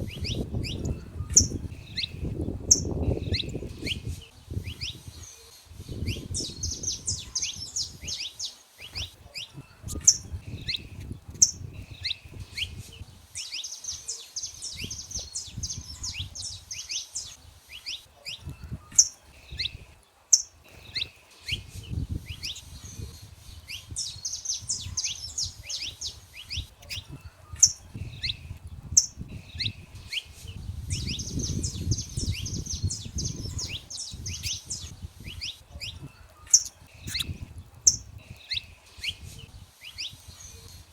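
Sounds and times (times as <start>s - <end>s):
finches chirping trills: 0.0s - 40.9s.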